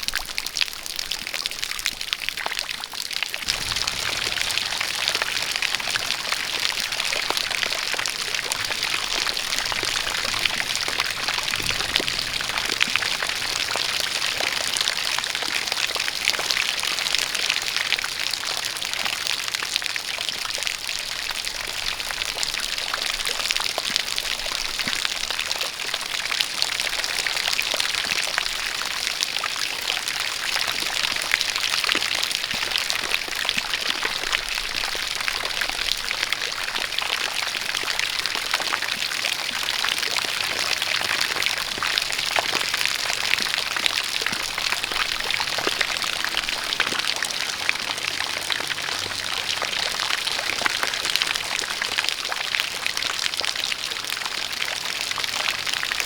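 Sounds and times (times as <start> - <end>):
rain pattering: 0.0 - 56.0
stream of water pouring: 0.0 - 56.0.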